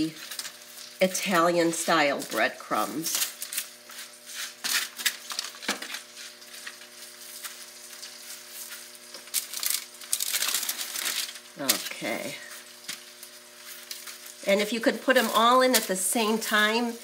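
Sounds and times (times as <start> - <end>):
chicken sizzling in a fryer: 0.0 - 17.0
foil crinkling: 0.0 - 17.0.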